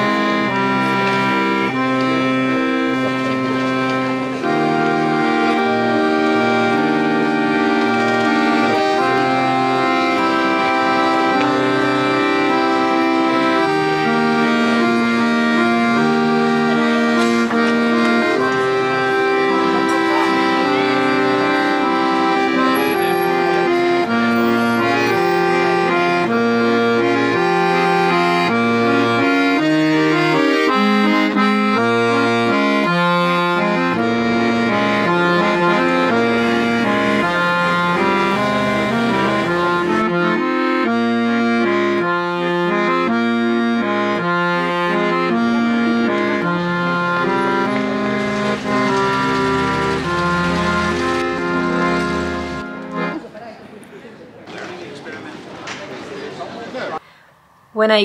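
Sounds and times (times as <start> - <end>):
accordion music: 0.0 - 54.3.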